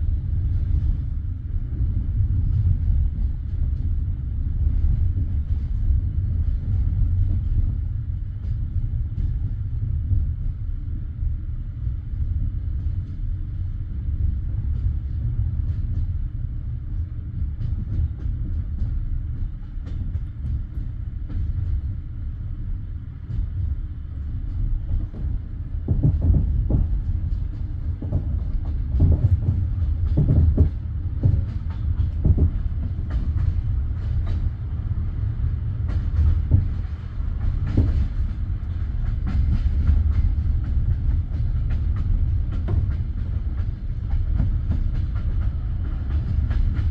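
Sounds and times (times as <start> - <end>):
train carriage rumble: 0.0 - 46.9.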